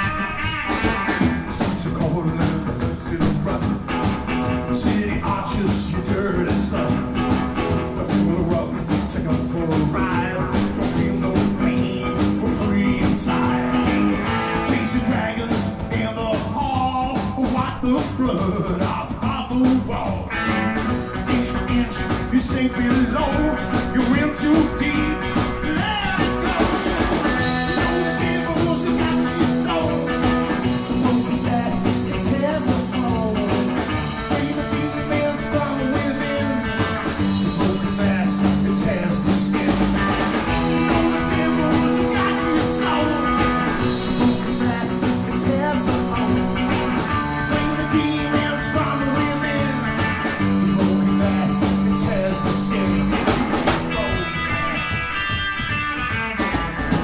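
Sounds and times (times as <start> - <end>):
drums with cymbals: 0.0 - 57.0
guitars sustaining chords: 0.0 - 57.0
rock band playing: 0.0 - 57.0.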